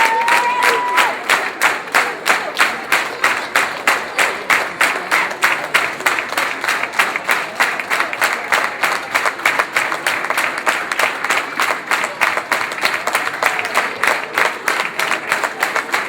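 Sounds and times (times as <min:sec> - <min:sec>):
audience clapping in rhythm: 0:00.0 - 0:16.0.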